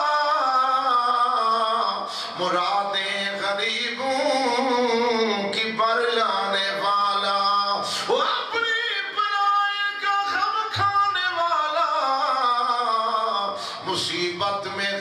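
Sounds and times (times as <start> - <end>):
person singing long melodic lines: 0.0 - 15.0.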